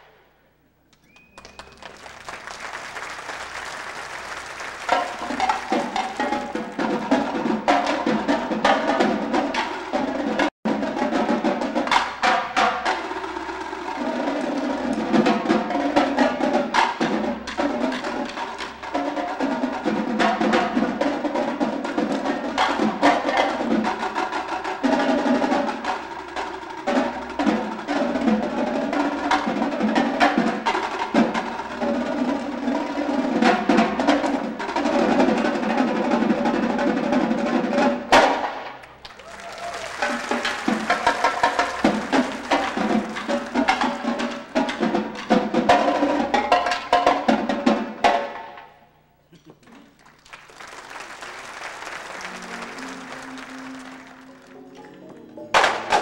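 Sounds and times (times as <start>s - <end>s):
drumline snare and tenor drums: 1.4s - 48.6s, 50.3s - 54.5s, 55.5s - 56.0s.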